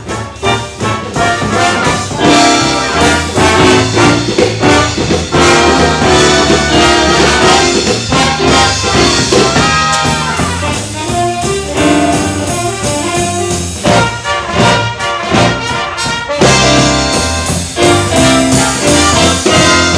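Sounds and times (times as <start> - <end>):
big band playing: 0.0 - 19.9.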